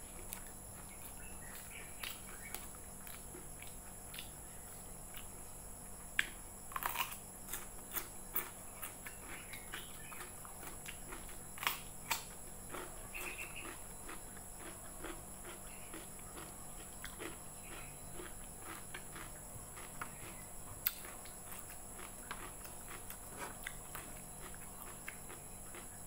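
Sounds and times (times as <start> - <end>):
rhythmic chewing: 0.0 - 26.0
crunching bites of cucumber: 0.2 - 4.4, 6.2 - 26.0.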